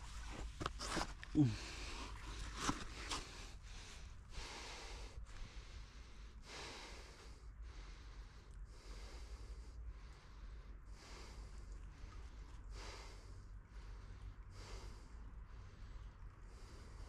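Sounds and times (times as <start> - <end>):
person breathing hard: 1.3 - 17.0.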